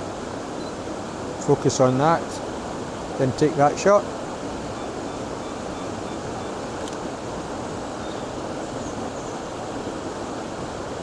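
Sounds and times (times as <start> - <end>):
stream over small waterfall: 0.0 - 11.0.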